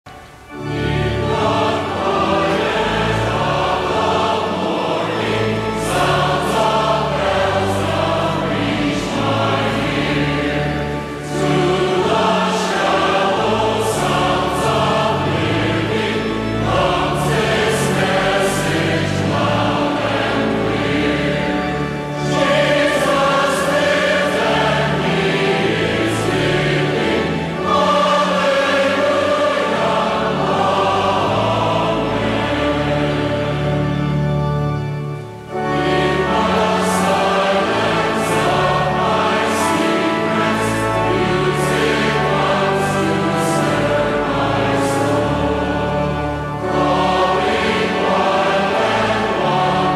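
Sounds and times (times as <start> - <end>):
choir singing sacred music: 0.1 - 49.9
sustained low accompaniment: 0.1 - 49.9.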